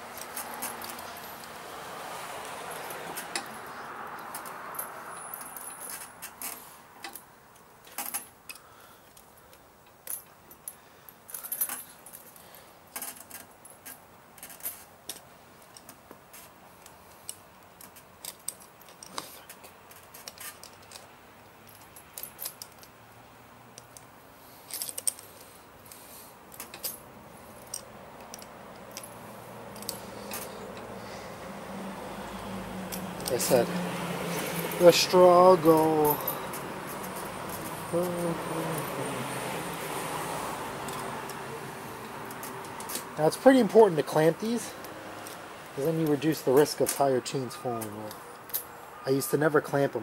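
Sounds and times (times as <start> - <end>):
metal chain links clinking: 0.0 - 1.8, 2.4 - 8.6, 10.0 - 23.0, 23.8 - 31.3, 32.9 - 39.3, 42.3 - 49.6.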